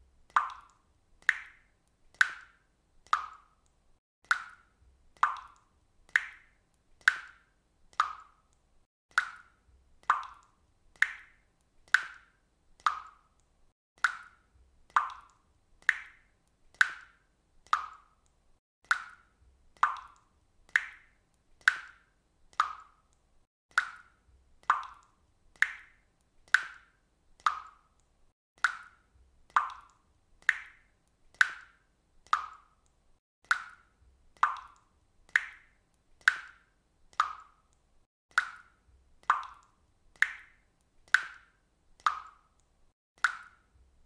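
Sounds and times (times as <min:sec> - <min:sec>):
water dripping from faucet: 0:00.0 - 0:44.0.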